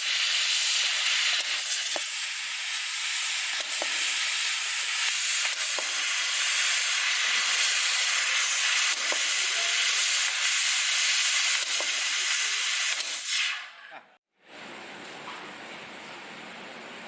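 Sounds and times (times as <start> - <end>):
hiss of gas jet: 0.0 - 13.8.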